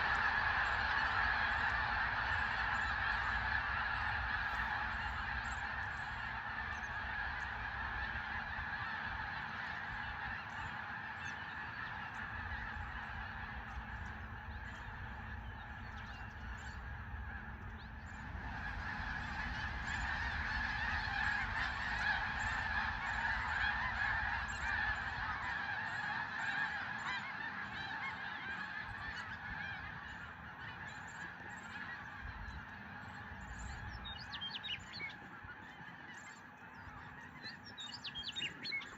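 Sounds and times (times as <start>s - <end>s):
flock of geese honking: 0.0s - 38.9s.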